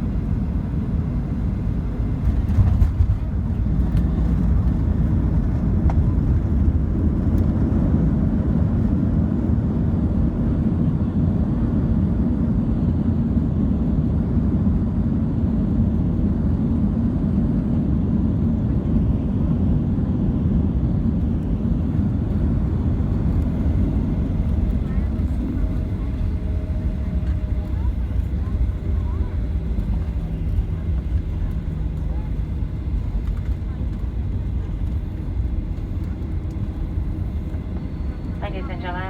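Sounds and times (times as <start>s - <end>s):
jet engine rumble in cabin: 0.0s - 39.0s.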